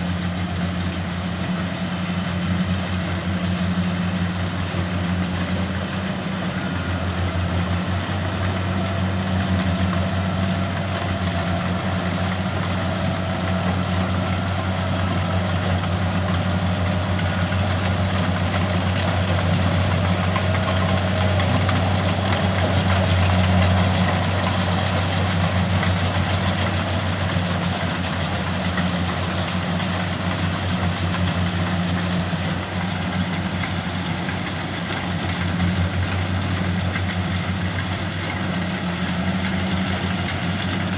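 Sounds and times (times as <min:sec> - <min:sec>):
harvester engine hum: 0:00.0 - 0:40.9.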